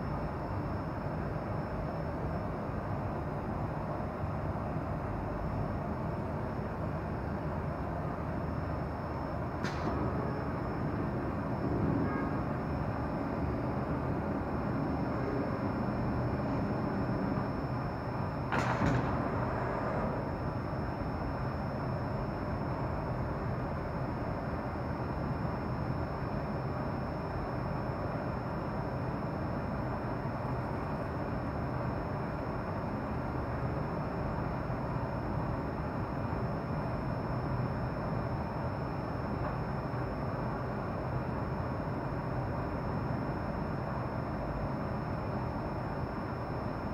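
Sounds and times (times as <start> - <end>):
faint high whine: 0.0 - 46.9.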